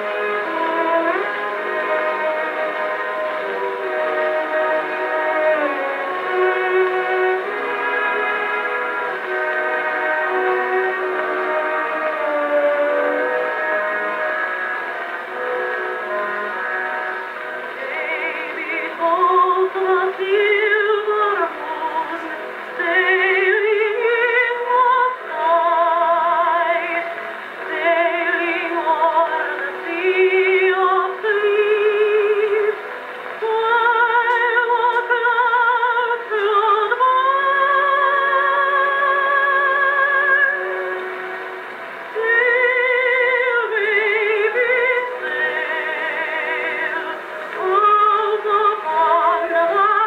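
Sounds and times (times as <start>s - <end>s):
woman singing with vibrato: 0.0s - 50.0s.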